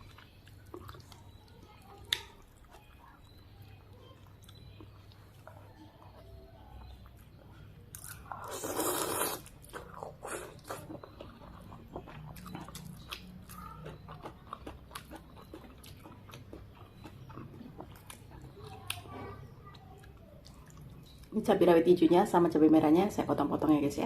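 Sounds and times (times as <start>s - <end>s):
wet chewing and crunching: 0.0s - 22.1s.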